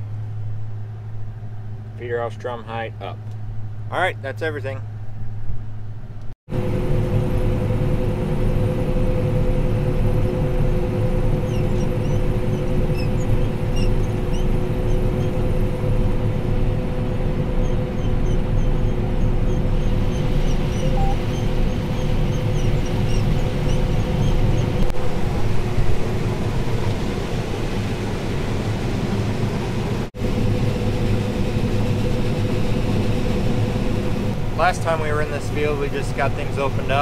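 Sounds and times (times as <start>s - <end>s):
combine harvester low rumble: 0.0s - 37.0s
steady whine: 0.0s - 37.0s.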